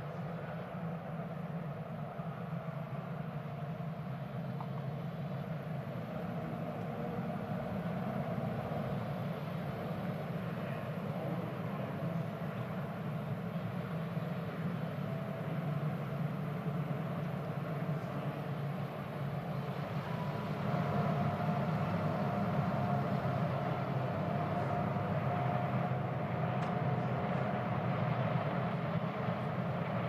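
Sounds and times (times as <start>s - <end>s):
race car engines droning: 0.0s - 30.0s.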